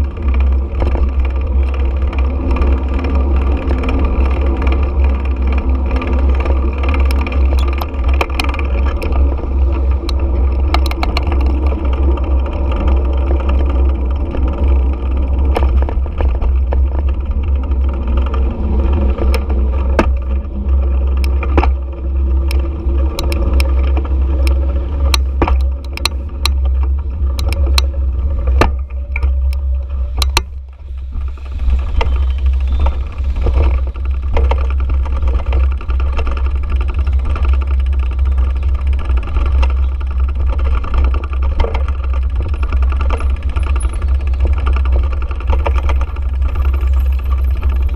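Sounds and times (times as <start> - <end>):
motorbike engine running: 0.0 - 47.9
sharp clicks and rattles: 0.0 - 47.9
wind and road rumble: 0.0 - 47.9.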